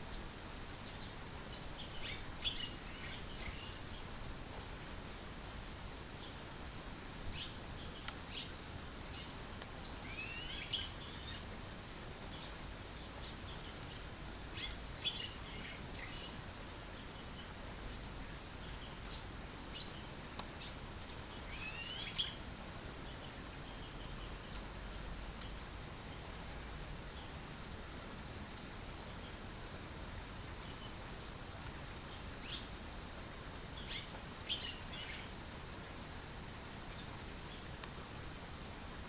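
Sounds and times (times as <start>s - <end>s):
background hiss: 0.0s - 39.0s.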